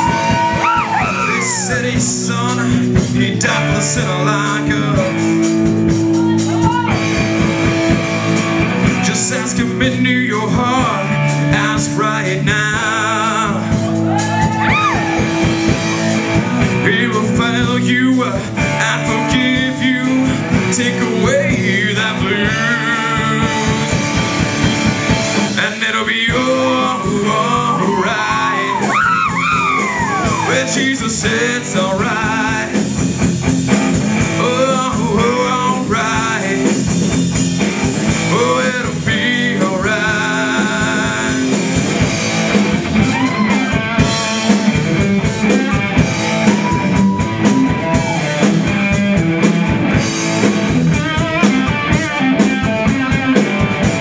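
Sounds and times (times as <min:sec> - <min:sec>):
electric guitar lead: 0:00.0 - 0:25.6, 0:26.5 - 0:54.0
blues-rock band playing: 0:00.0 - 0:54.0.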